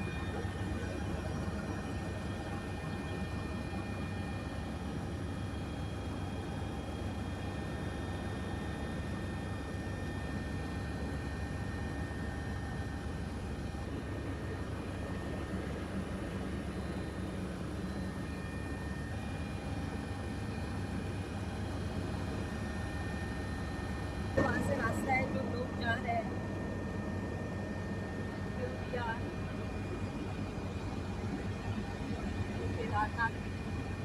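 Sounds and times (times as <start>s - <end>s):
helicopter engine and rotor drone: 0.0s - 34.0s.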